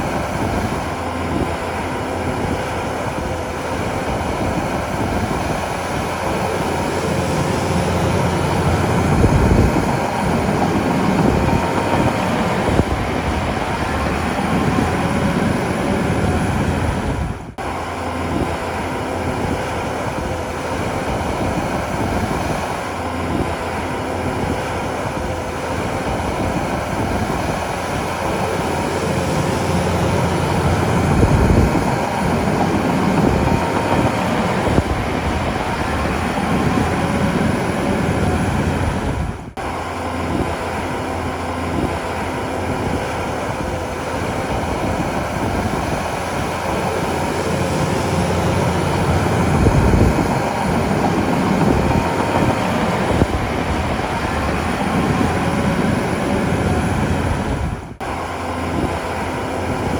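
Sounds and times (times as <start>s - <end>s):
bulldozer diesel engine rumbling: 0.0s - 59.9s.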